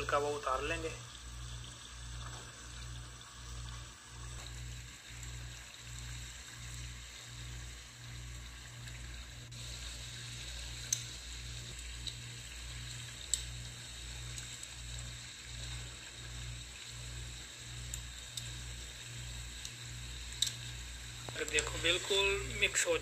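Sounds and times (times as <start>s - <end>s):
food sizzling in a wok: 0.8s - 23.0s.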